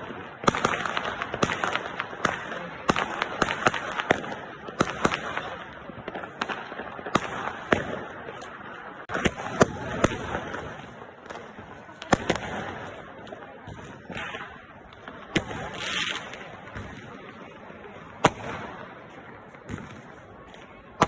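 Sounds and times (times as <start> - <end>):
continuous fireworks crackle: 0.0 - 21.0
fireworks bangs and cracks: 0.0 - 21.0.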